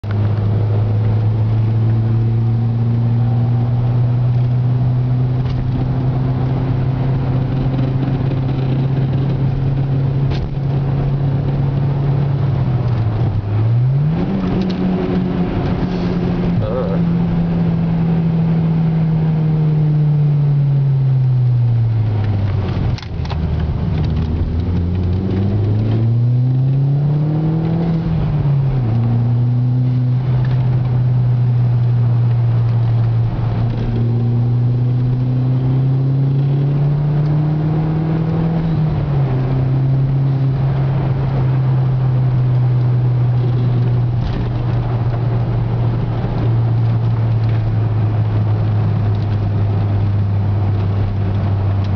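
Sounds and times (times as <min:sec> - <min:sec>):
car engine from inside cabin: 0:00.0 - 0:51.9
road noise: 0:00.0 - 0:51.9.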